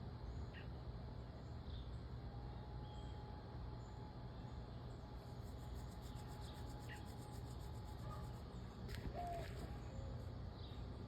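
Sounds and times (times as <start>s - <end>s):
distant bird chirps: 1.4s - 11.0s.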